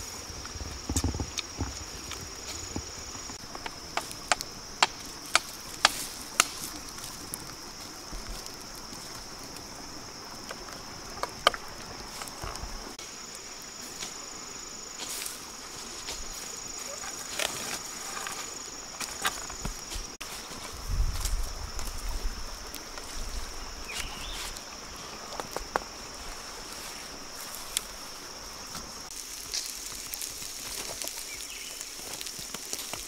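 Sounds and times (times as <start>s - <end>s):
wood fire crackling and popping: 0.0s - 24.6s, 25.2s - 26.6s, 27.4s - 33.0s
insects droning: 0.0s - 33.0s.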